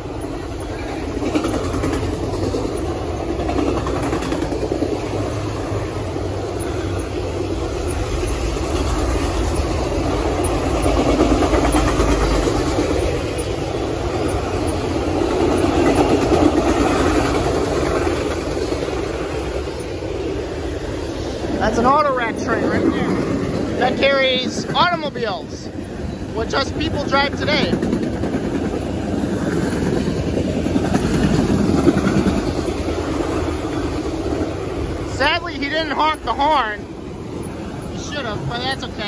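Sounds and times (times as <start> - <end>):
steel wheels rumbling on rails: 0.0 - 39.0.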